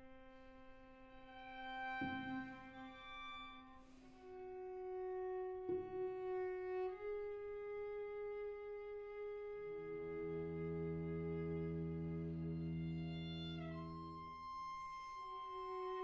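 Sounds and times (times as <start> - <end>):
string quartet long bowed notes: 0.0 - 16.0.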